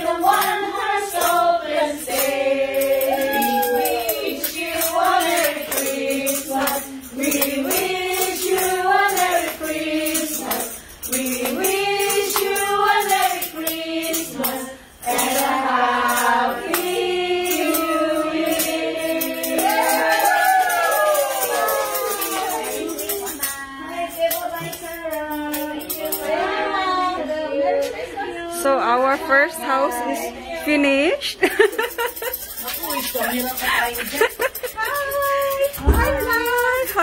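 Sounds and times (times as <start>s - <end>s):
tambourine jingling: 0.0s - 27.2s, 31.3s - 37.0s
women singing carol: 0.0s - 32.4s, 33.6s - 37.0s.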